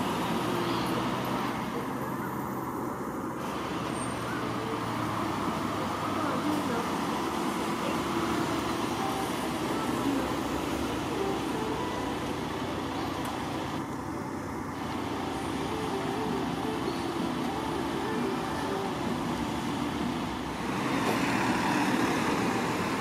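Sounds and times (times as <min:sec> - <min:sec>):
street traffic noise: 0:00.0 - 0:23.0
vehicle engines idling: 0:00.0 - 0:23.0.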